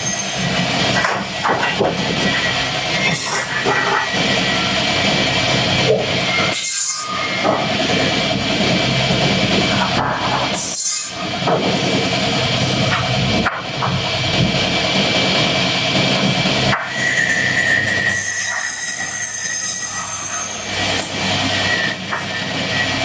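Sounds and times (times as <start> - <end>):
wood-cutting machinery running: 0.0 - 23.0.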